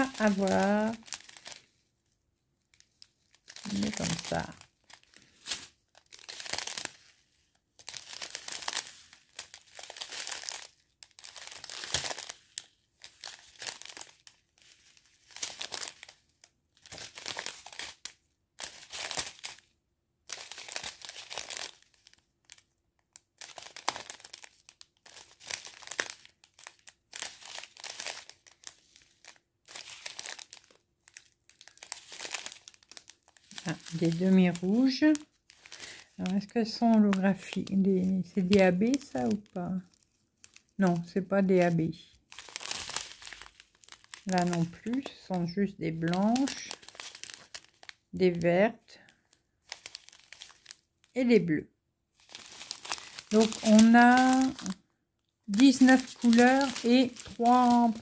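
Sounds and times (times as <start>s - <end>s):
plastic sachets crinkling: 0.0s - 58.0s.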